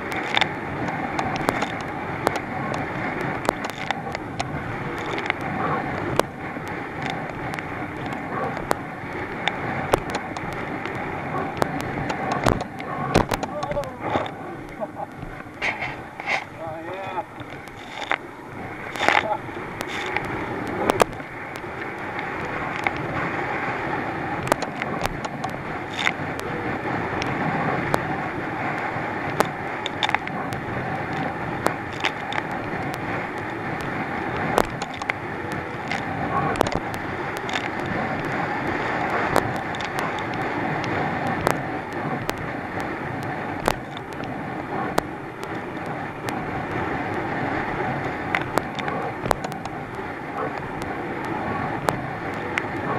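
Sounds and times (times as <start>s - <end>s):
hull slapping on waves: 0.0s - 52.9s
outboard engine drone: 0.0s - 52.9s
rushing wind and water: 0.0s - 52.9s.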